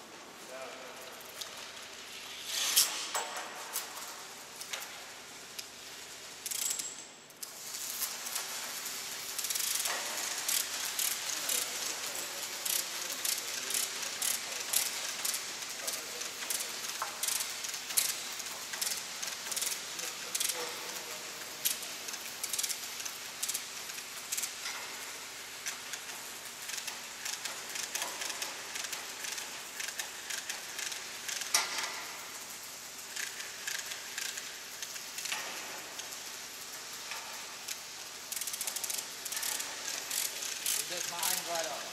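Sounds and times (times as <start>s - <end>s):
crackling and sizzling hiss: 0.0s - 41.9s.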